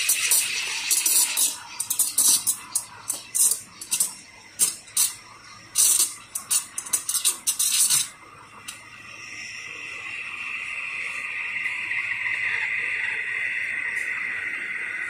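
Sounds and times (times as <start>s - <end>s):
steam wand high-pitched whine: 0.0s - 15.0s
steam wand sputtering hiss: 0.0s - 15.0s.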